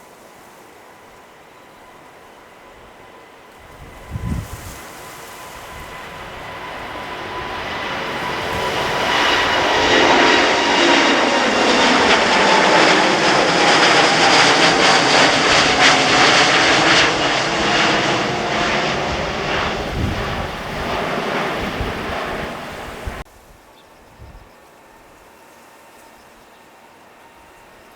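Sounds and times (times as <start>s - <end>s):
jet fan whine: 0.0s - 23.3s
jet airliner taking off: 0.1s - 23.2s.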